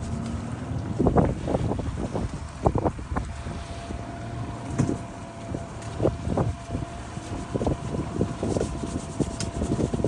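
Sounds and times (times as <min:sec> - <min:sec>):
boat motor running: 0:00.0 - 0:10.0
wind buffeting microphone: 0:00.0 - 0:10.0.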